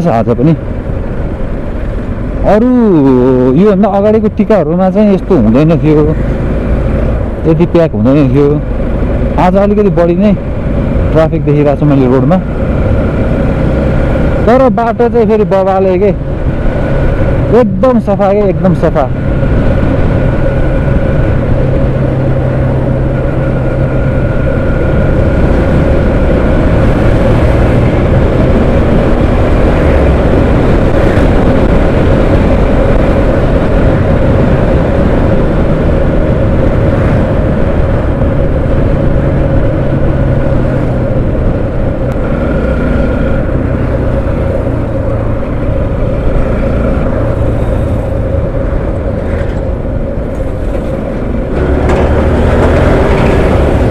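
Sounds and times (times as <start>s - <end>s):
wind rush on microphone: 0.0s - 53.9s
motorcycle engine running: 0.7s - 53.9s.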